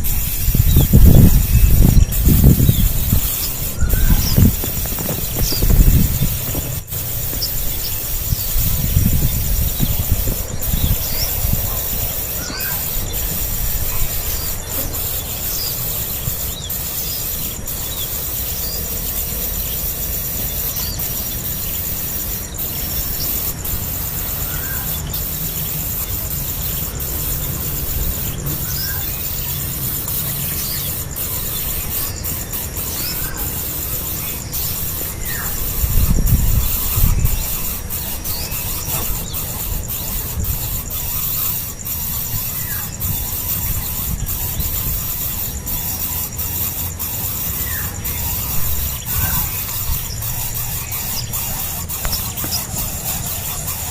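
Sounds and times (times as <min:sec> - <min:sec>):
steady low rumble: 0:00.0 - 0:45.7
nestlings begging squeaks: 0:00.0 - 0:53.9.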